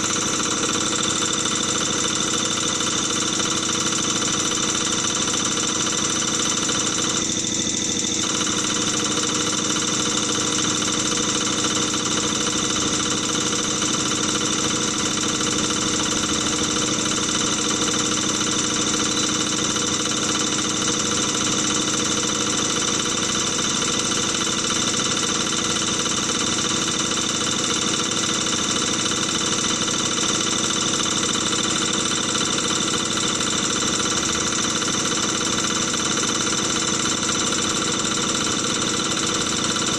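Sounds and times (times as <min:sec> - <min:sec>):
test bench mechanical drone: 0:00.0 - 0:39.9.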